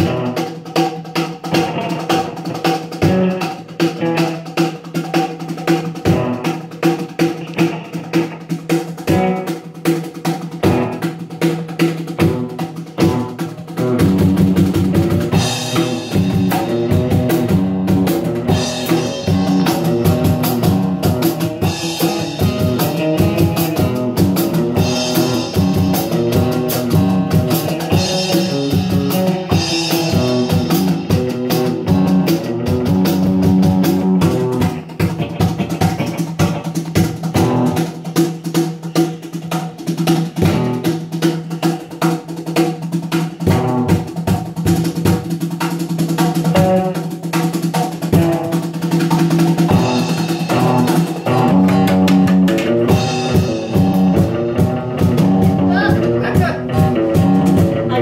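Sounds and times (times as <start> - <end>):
band jamming on guitars: 0.0 - 58.0
drumming: 0.0 - 58.0.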